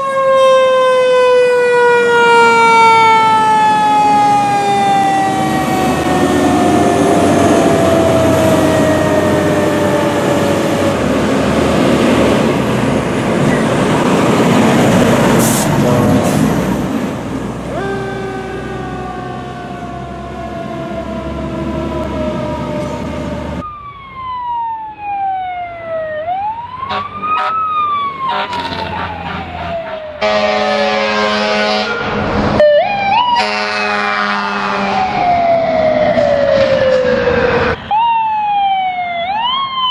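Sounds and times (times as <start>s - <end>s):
electronic wail siren: 0.0s - 11.7s, 17.6s - 32.0s, 32.6s - 39.9s
rapidly changing siren: 0.0s - 12.4s, 17.5s - 31.8s, 32.6s - 39.9s
fire engine siren winding down: 0.0s - 39.9s
truck engine and road noise: 0.0s - 39.9s.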